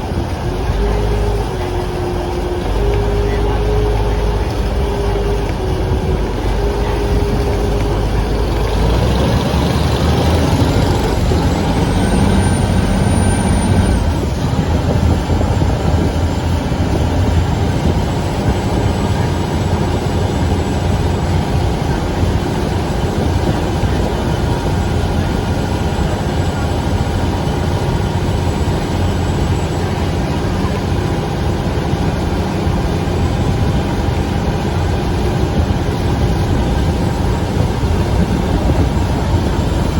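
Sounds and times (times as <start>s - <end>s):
high whine: 0.0s - 39.9s
vehicle engine rumble: 0.0s - 39.9s.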